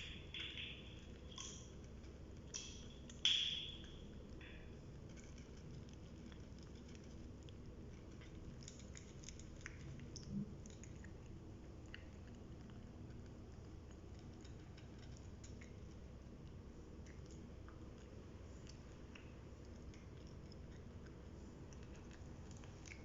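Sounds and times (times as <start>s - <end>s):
cats chewing wetly: 0.0s - 23.0s.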